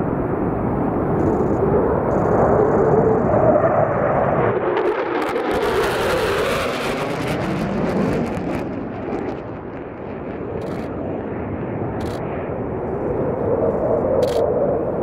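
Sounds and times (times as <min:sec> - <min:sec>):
fighter jet engine roar: 0:00.0 - 0:15.0.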